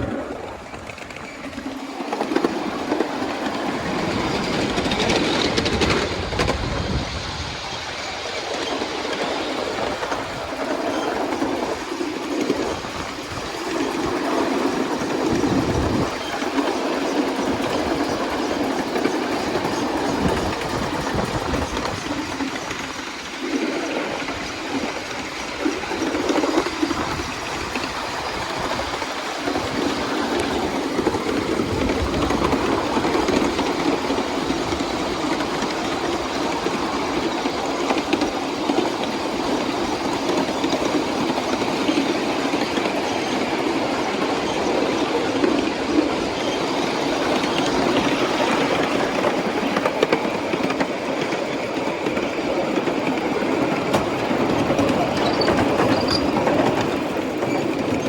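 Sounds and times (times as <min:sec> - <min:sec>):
miniature train wheels clattering on rails: 0:00.0 - 0:58.0.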